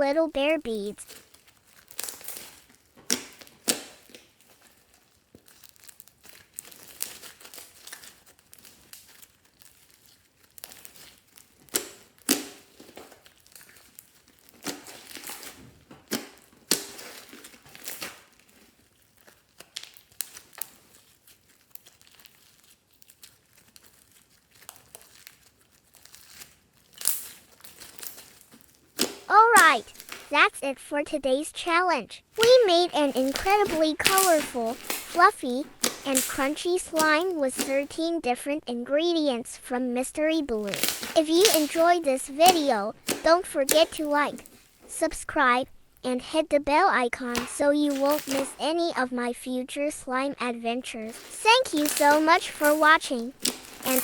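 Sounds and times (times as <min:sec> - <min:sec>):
slime crunching and crackling: 0:00.0 - 0:54.0.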